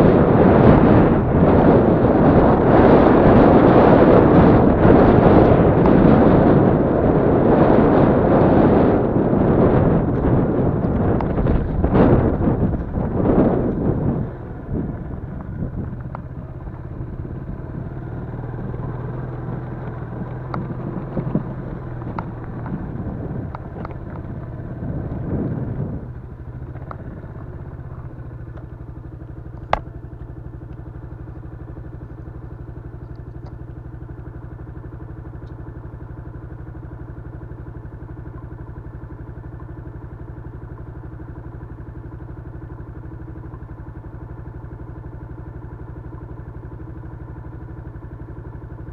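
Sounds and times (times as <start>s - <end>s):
small motorcycle engine running: 0.0s - 48.9s.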